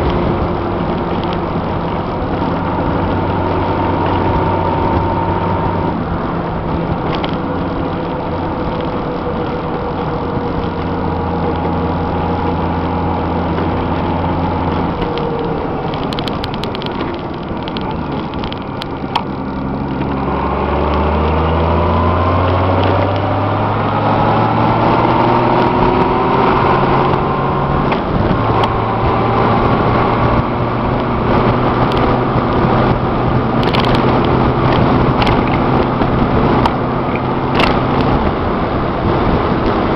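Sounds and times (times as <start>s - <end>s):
motorcycle engine: 0.0s - 39.9s
tire and wind noise: 0.0s - 39.9s.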